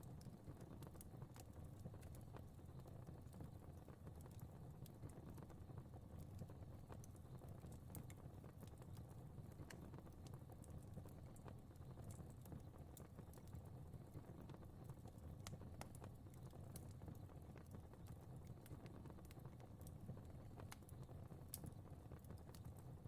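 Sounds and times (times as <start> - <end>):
fire crackling: 0.1 - 23.0.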